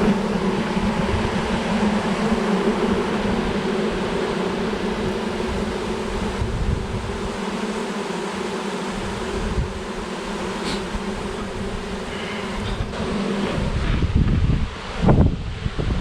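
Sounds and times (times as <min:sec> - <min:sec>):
bee swarm buzzing: 0:00.0 - 0:15.2.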